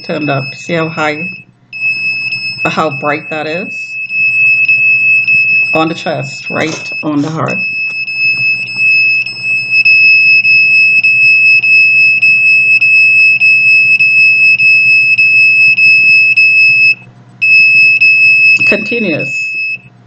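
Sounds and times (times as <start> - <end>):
high-pitched meter alarm tone: 0.0 - 19.9.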